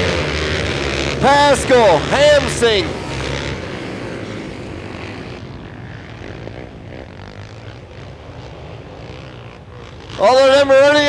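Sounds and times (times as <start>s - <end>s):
racing quad engines: 0.0s - 11.0s.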